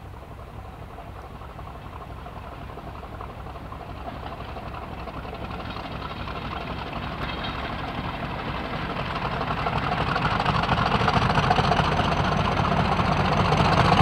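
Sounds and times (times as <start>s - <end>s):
diesel locomotive engine approaching: 0.0s - 14.0s.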